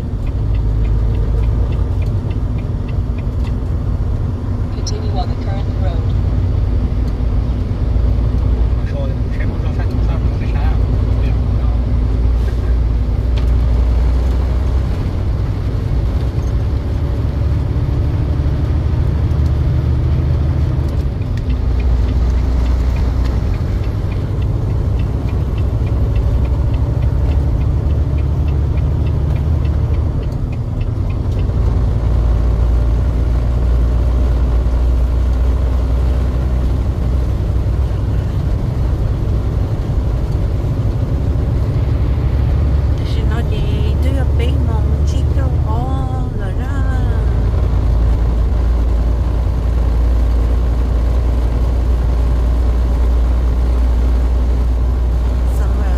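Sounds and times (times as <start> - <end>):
truck engine and road rumble: 0.0 - 55.9.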